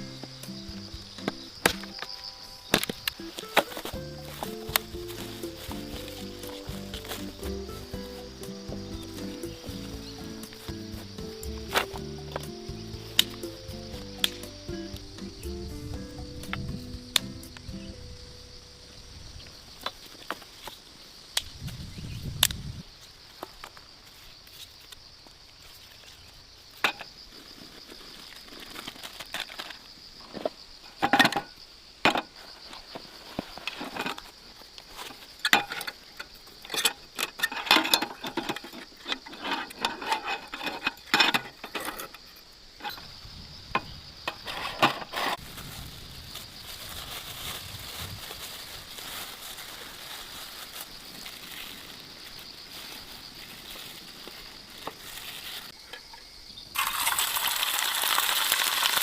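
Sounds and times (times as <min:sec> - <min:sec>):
rustling: 0:00.0 - 0:17.7, 0:22.9 - 0:31.2, 0:32.2 - 0:43.2, 0:44.2 - 0:56.1
crickets chirping: 0:00.0 - 0:59.0.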